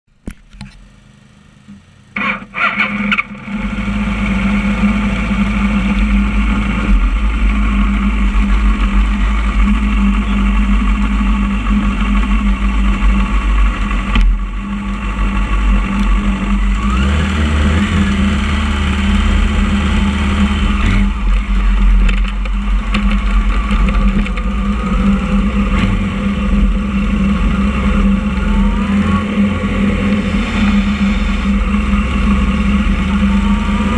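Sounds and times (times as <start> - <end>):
motorcycle engine starting and running: 0.1 - 33.9.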